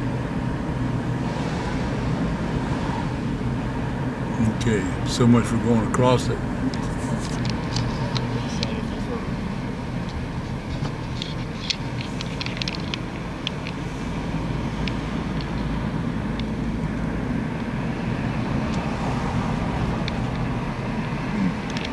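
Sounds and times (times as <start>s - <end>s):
car road and engine rumble: 0.0s - 21.9s.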